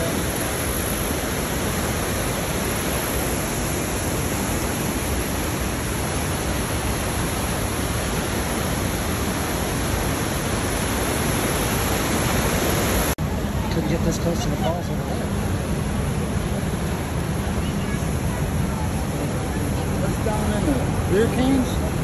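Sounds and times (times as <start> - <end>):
white water rushing over rocks: 0.0 - 22.0.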